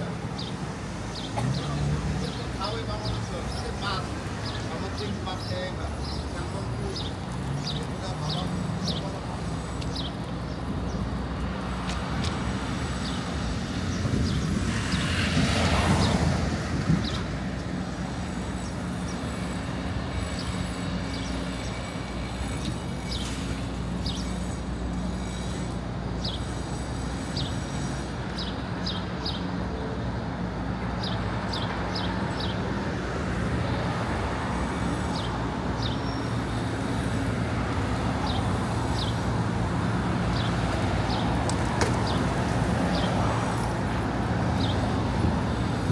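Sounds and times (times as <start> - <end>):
traffic engine hum: 0.0 - 45.9.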